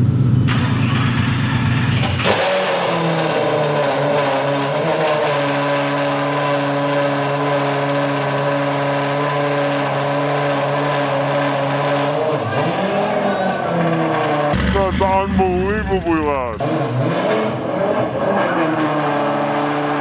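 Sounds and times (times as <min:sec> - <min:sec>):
loud raspy car engine idling: 0:00.0 - 0:20.0.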